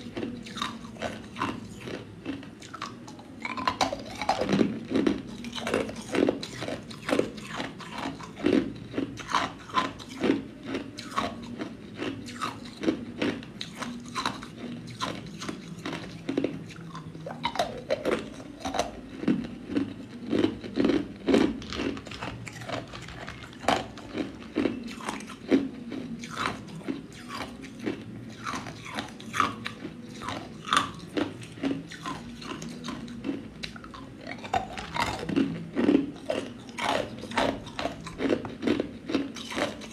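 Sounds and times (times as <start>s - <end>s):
ice cubes crunching in teeth: 0.0s - 39.9s.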